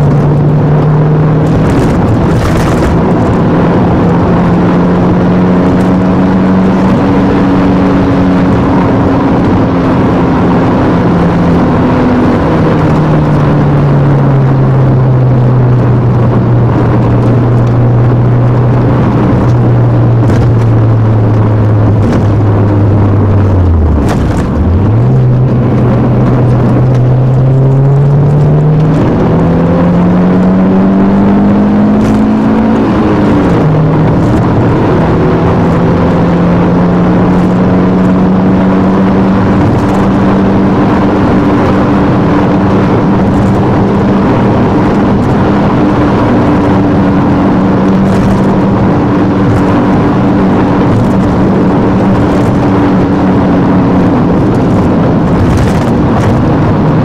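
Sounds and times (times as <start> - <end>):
car engine pulling: 0.0 - 57.0
road and tyre noise: 0.0 - 57.0.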